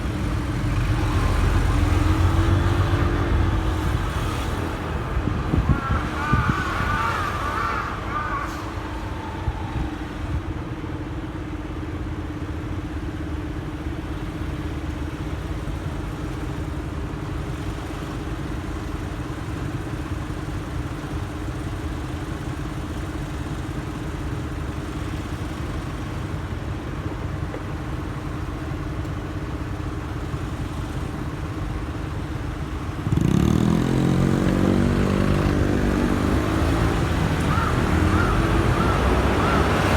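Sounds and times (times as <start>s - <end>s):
motorcycle engine idling and revving: 0.0s - 7.2s, 11.7s - 39.9s
low hum of road noise: 0.0s - 39.9s.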